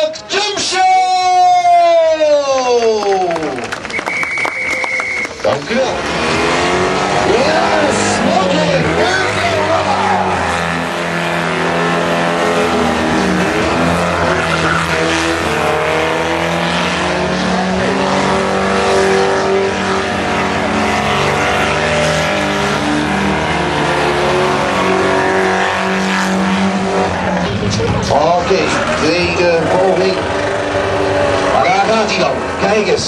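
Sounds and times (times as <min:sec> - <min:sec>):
car engine revving high: 0:03.4 - 0:33.0
tyres squealing and skidding: 0:03.8 - 0:20.1, 0:20.8 - 0:33.0.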